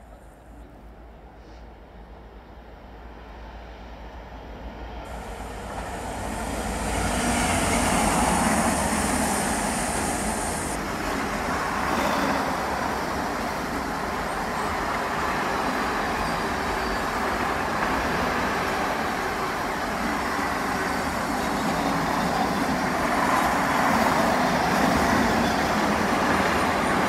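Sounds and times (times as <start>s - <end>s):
freight train rumbling past: 0.0s - 27.0s.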